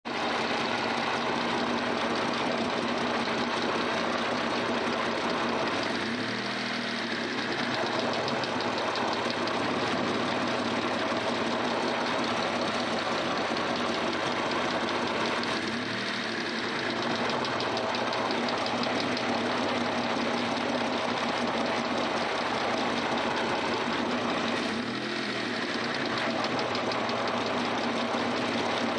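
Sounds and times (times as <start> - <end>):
car engine idling: 0.0 - 28.9
fast even engine ticking: 0.1 - 28.9.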